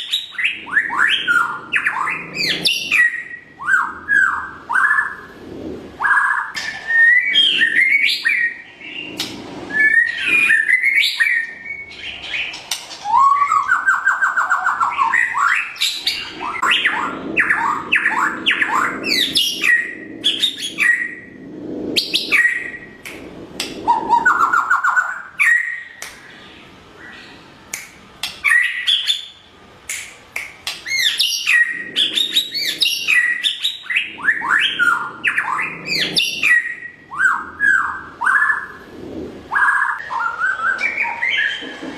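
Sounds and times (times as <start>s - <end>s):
bird singing varied song: 0.0s - 5.3s, 6.0s - 21.3s, 23.8s - 27.6s, 28.2s - 29.6s, 30.6s - 38.8s, 39.5s - 41.7s.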